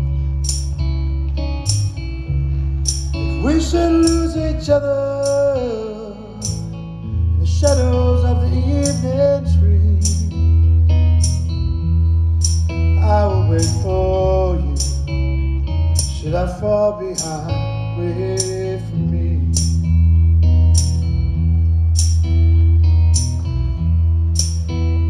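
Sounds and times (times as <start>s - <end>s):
bass guitar: 0.0s - 25.0s
electric guitar lead: 0.0s - 25.0s.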